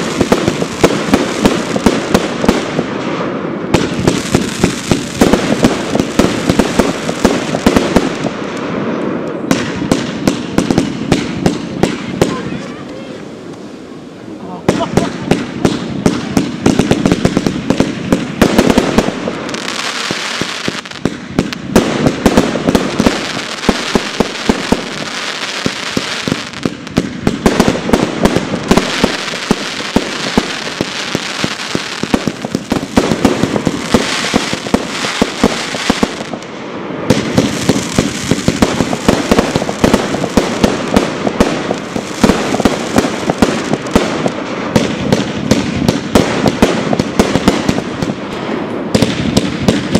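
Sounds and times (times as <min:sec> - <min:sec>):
fireworks crackle: 0:00.0 - 0:49.9.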